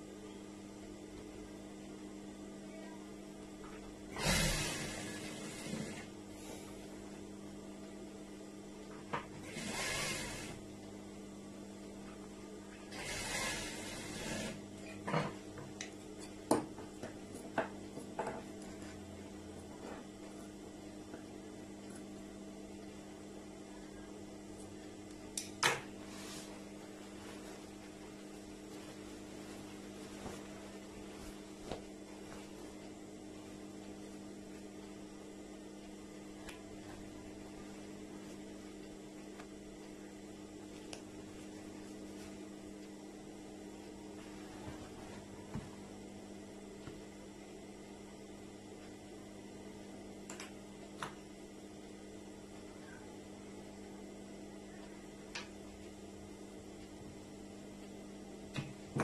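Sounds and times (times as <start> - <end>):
electric hum: 0.0 - 59.0.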